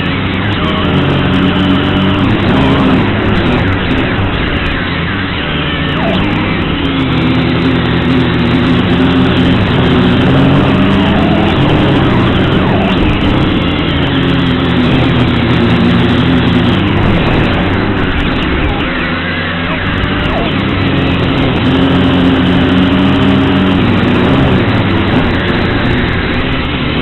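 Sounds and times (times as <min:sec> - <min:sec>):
quadcopter propellers buzzing: 0:00.0 - 0:27.0.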